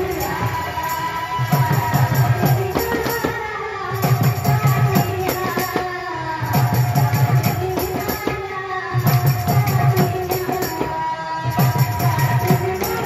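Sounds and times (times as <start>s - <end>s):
drums and jingling percussion: 0.0s - 13.0s.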